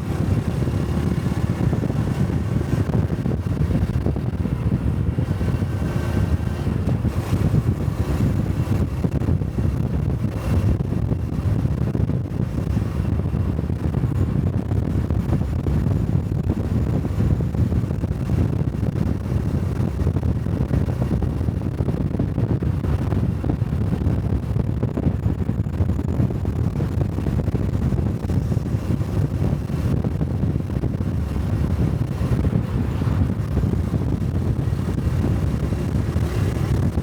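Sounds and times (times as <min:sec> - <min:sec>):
motorcycle engine running: 0:00.0 - 0:37.0
wind on microphone: 0:00.0 - 0:37.0.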